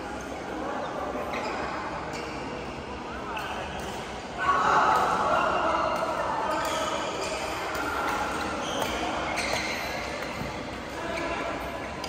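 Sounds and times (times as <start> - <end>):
sports hall murmur: 0.0 - 12.0.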